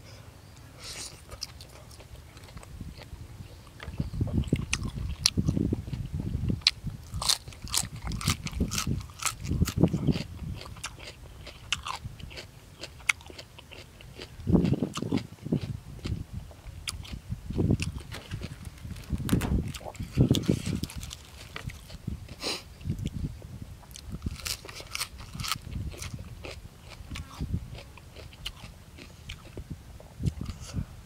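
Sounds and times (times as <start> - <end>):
person chewing with crunching: 0.8 - 30.8.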